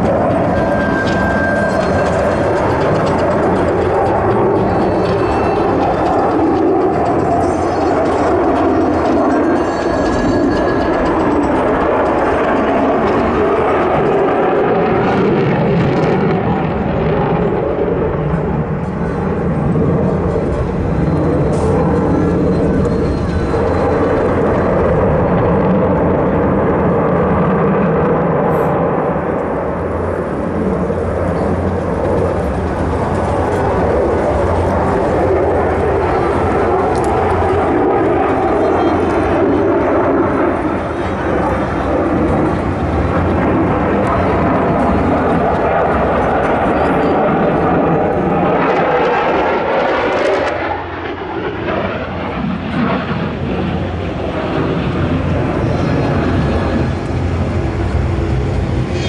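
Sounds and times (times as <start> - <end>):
jet engines roaring in flight: 0.0 - 59.0.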